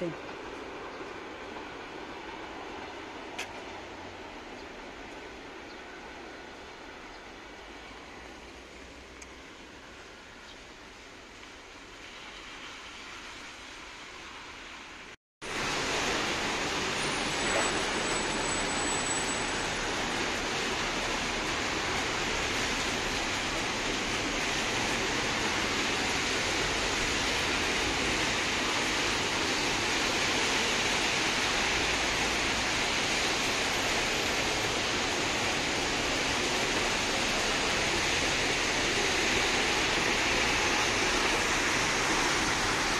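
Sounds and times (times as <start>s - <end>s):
falling rain: 0.0s - 42.9s
tyres spraying on wet road: 0.0s - 42.9s.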